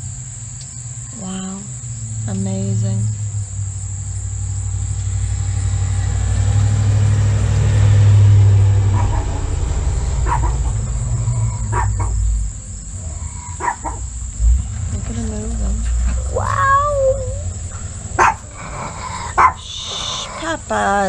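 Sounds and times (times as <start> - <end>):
high-pitched insect trilling: 0.0 - 6.8, 9.5 - 21.0
deep rumble: 0.0 - 21.0.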